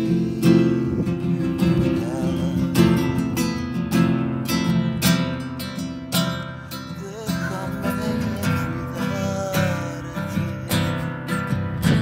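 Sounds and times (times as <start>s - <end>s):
classical guitar strummed chords: 0.0s - 12.0s.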